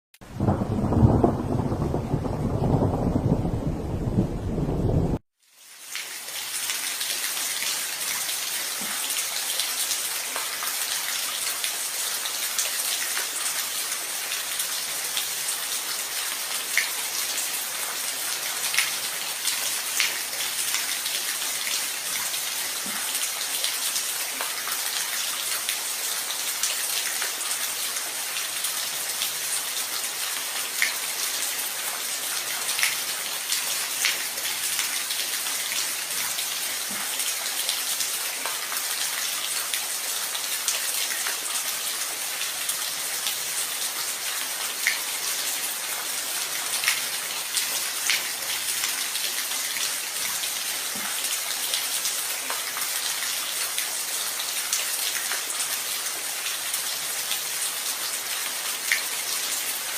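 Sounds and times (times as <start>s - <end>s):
steady rain hiss: 0.2s - 59.9s.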